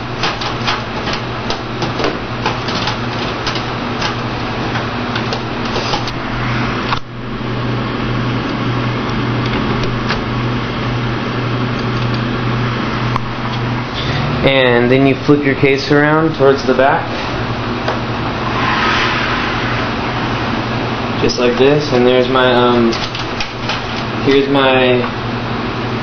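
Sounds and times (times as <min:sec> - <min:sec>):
steady low hum: 0:00.0 - 0:24.1.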